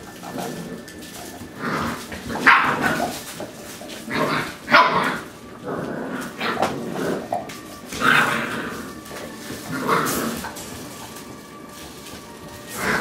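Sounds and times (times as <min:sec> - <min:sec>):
puppies barking: 0:00.0 - 0:13.0.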